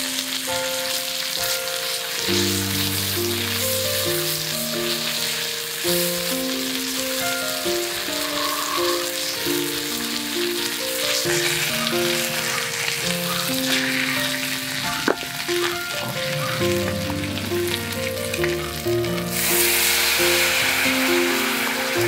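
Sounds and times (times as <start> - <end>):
loud hiss of liquid in hot pan: 0.0 - 22.0
meat sizzling in a skillet: 0.0 - 22.0.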